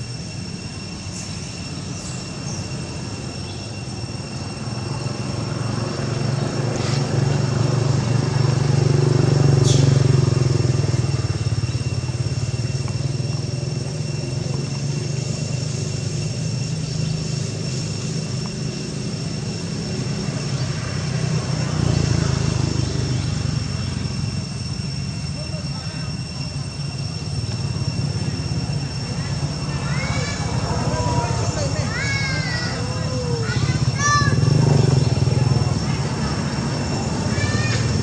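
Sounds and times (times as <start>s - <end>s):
vehicle engine drone: 0.0s - 38.0s.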